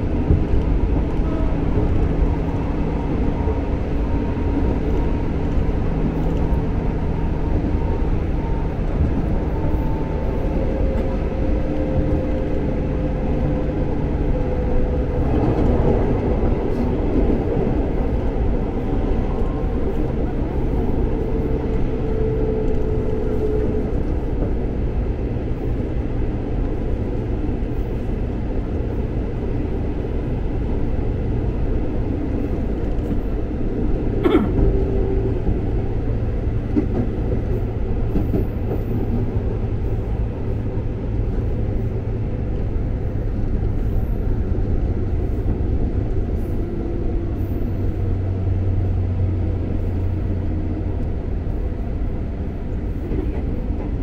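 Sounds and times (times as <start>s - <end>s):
electric train rumble: 0.0s - 54.0s
faint train whine: 0.0s - 54.0s.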